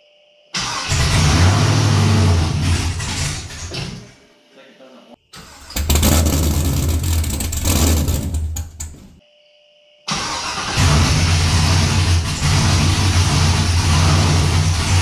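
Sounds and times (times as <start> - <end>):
engine starting and running: 0.6 - 3.9, 5.4 - 9.2, 10.1 - 15.0.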